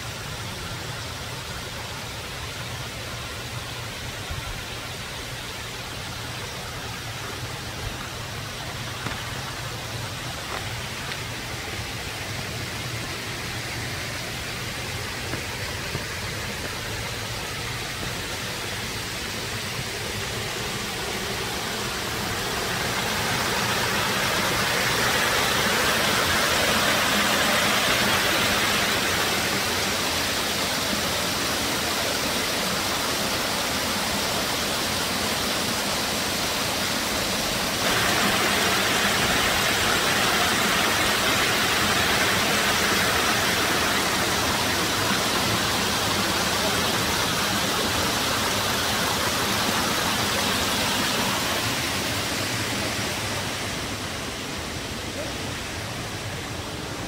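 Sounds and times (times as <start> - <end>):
stream rushing over stone: 0.0 - 57.0.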